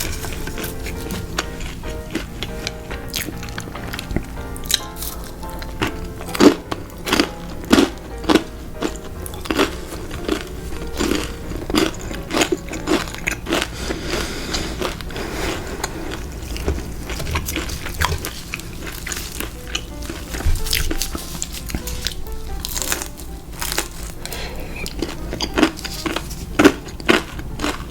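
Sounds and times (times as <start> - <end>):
crunchy bites and chewing: 0.0 - 27.9
quiet background music: 0.0 - 27.9.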